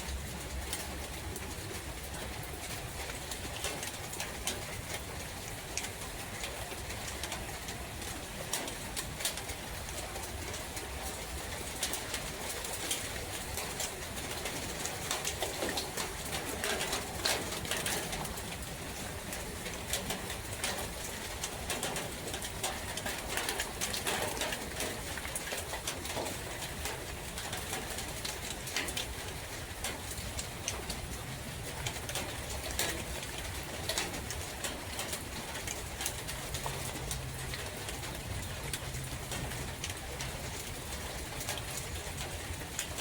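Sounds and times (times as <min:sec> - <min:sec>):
rain falling in forest: 0:00.0 - 0:43.0
sharp raindrop clicks: 0:00.0 - 0:43.0.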